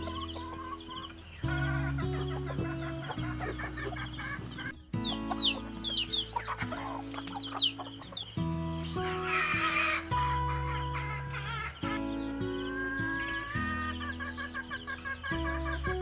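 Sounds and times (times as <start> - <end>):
chickens clucking: 0.0 - 16.0
music of low held chords: 0.0 - 16.0
small birds chirping: 0.0 - 16.0.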